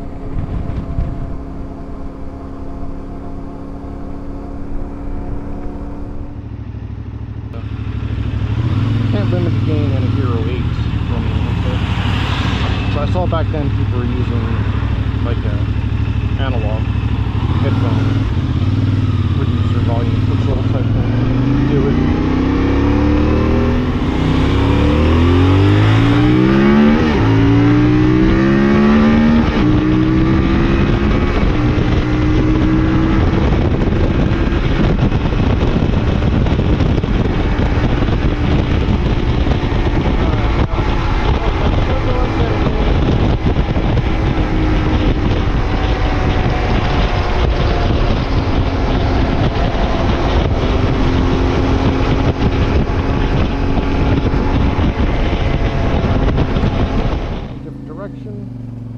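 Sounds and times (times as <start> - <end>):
motorcycle engine accelerating: 0.0 - 58.9
wind noise on microphone: 0.0 - 58.9.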